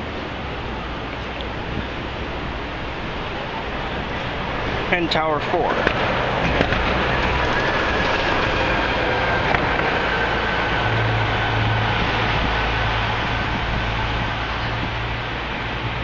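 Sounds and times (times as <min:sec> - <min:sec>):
construction machinery: 0:00.0 - 0:16.0
heavy city traffic rumble: 0:00.0 - 0:16.0.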